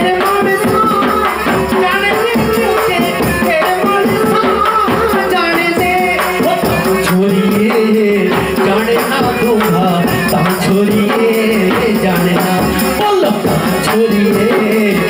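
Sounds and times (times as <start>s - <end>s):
harmonium: 0.0s - 15.0s
percussion beat: 0.0s - 15.0s
person singing folk song: 0.0s - 15.0s.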